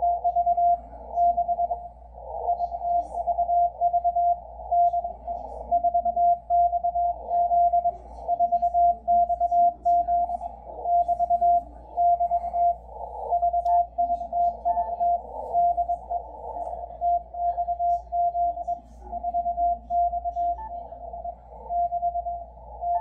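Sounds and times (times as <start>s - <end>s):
morse code beeps: 0.0s - 1.9s, 2.5s - 23.0s.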